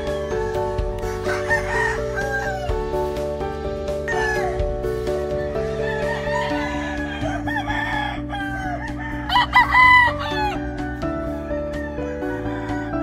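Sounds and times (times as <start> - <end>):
rooster crowing: 0.0 - 2.8, 4.0 - 4.6, 5.4 - 13.0
background music with chords: 0.0 - 13.0.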